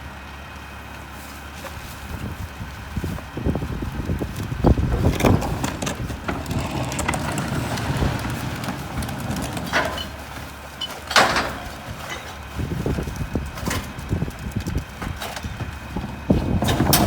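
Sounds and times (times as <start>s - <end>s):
truck diesel engine running: 2.0s - 17.0s.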